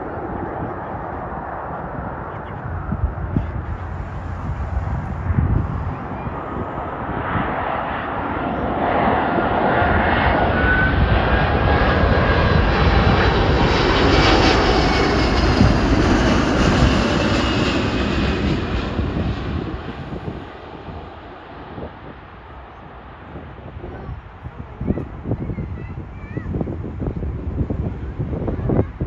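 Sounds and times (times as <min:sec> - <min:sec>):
jet engines roaring as plane passes: 0:00.0 - 0:29.0.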